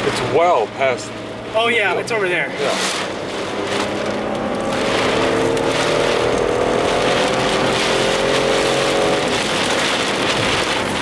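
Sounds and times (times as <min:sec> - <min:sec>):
car engine and tyre hum: 0:00.0 - 0:11.0
rain and wind against windows: 0:00.0 - 0:11.0.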